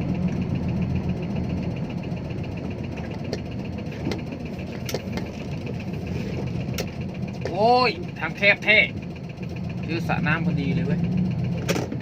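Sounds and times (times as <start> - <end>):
fine even ticking: 0.0 - 11.6
diesel engine running at low revs: 0.0 - 12.0.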